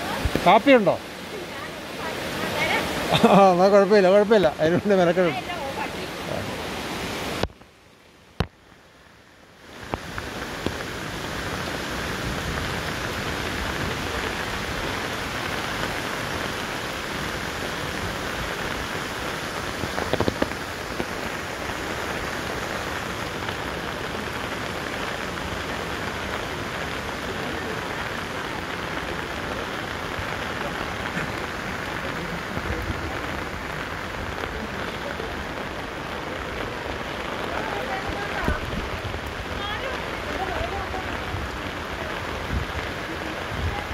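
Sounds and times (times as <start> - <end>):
rain on wet road: 0.0 - 43.9.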